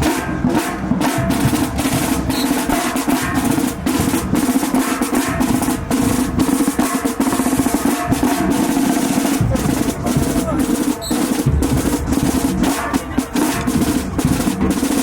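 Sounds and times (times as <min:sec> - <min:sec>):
snare drum rolls: 0:00.0 - 0:15.0.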